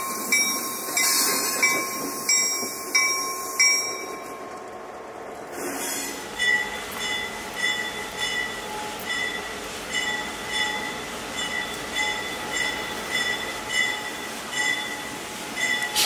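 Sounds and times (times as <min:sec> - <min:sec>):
locomotive bell ringing: 0:00.0 - 0:04.7, 0:06.3 - 0:16.0
freight train rumbling: 0:00.0 - 0:16.0.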